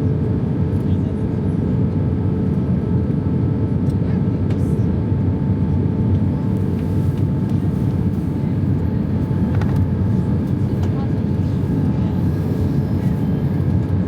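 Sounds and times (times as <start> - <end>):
airliner cabin engine rush: 0.0 - 14.0.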